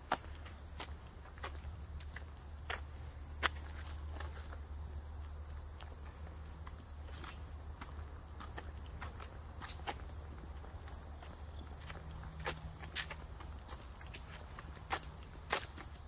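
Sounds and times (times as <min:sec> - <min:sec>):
footsteps on trail: 0:00.0 - 0:16.0
high-pitched insect chorus: 0:00.0 - 0:16.0.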